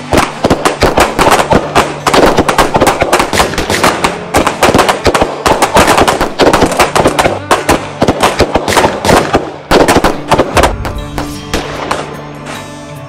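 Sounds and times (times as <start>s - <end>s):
handguns firing: 0.0s - 12.2s.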